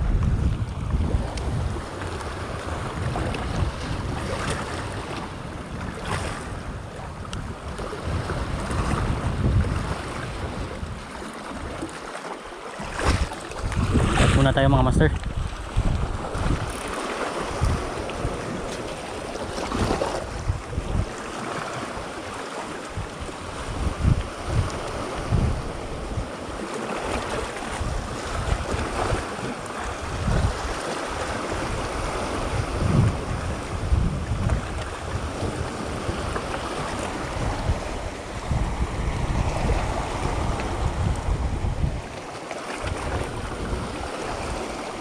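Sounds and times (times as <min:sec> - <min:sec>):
wind buffeting the microphone: 0:00.0 - 0:12.0, 0:12.8 - 0:45.0
sea waves washing on shore: 0:00.0 - 0:45.0.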